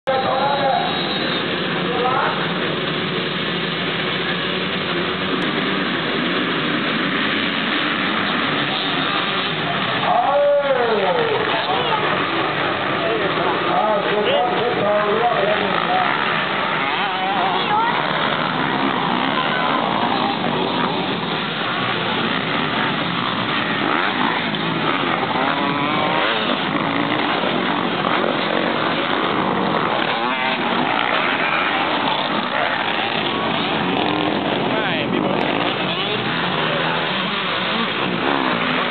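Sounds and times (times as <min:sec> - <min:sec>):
dirt-bike engines droning: 0:00.0 - 0:38.9.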